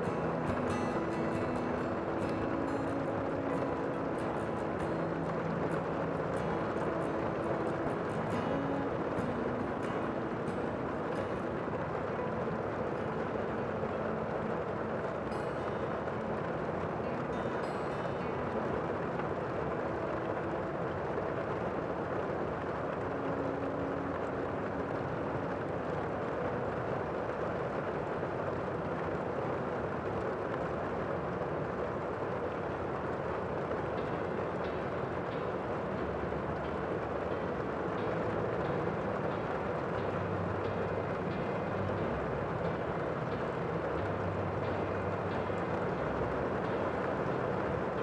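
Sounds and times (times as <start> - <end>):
steady rushing noise: 0.0 - 48.0.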